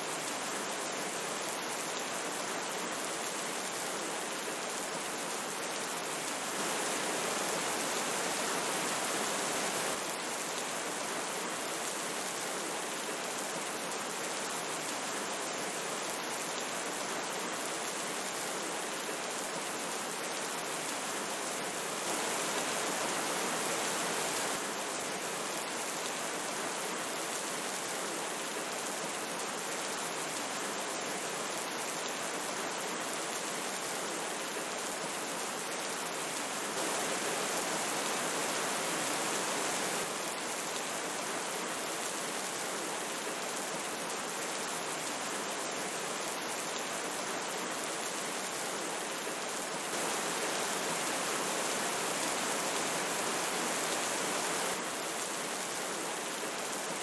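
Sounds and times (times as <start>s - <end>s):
river flowing: 0.0s - 14.8s, 16.1s - 29.6s, 33.2s - 57.0s
rain falling: 0.1s - 57.0s.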